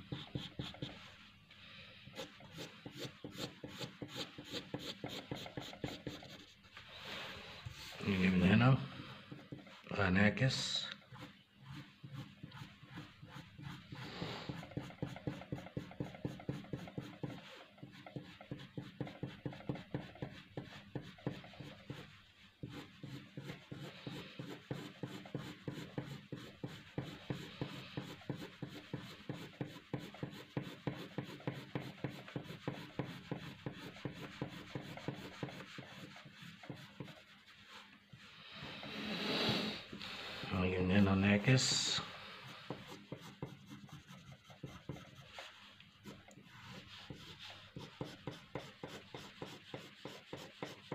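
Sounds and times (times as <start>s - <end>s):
pencil scratching on paper: 0.0s - 1.2s, 2.1s - 6.7s, 8.0s - 38.0s, 40.9s - 50.9s.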